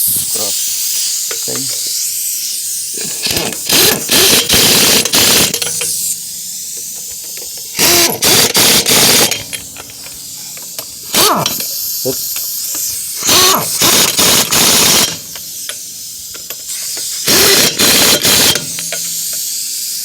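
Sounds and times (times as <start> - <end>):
impact wrench bursts: 0.0 - 20.0
steady hiss: 0.0 - 20.0.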